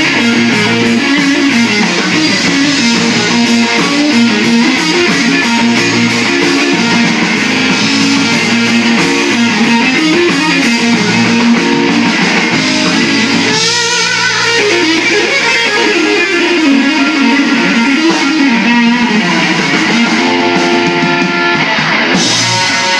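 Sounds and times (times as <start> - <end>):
bass guitar: 0.0 - 22.9
drum kit with cymbals: 0.0 - 22.9
lead electric guitar: 0.0 - 22.9.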